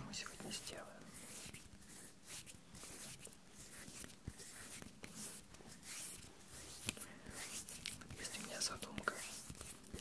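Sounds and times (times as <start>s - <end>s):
hands rubbing together: 0.5s - 10.0s.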